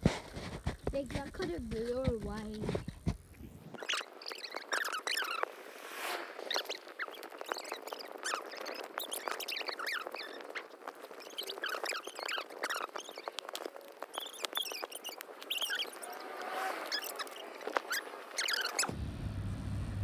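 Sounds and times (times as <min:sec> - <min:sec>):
small birds chirping: 0:00.7 - 0:05.8, 0:06.4 - 0:18.9.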